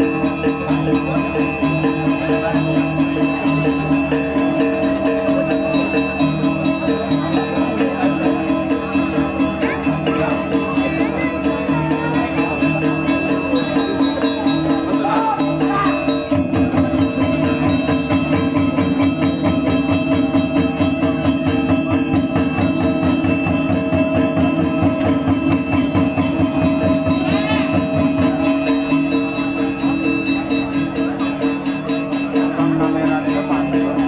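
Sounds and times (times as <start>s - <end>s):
fast drum and percussion: 0.0s - 34.0s
ringing metallic gamelan tones: 0.0s - 34.0s.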